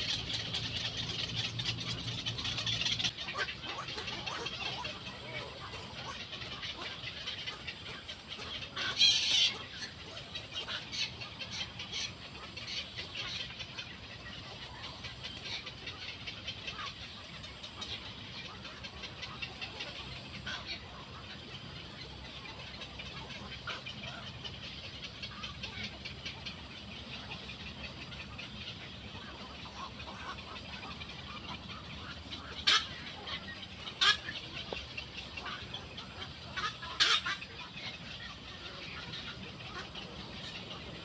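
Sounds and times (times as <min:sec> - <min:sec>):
birds chattering: 0:00.0 - 0:41.0
loud sharp bird calls: 0:00.0 - 0:41.0.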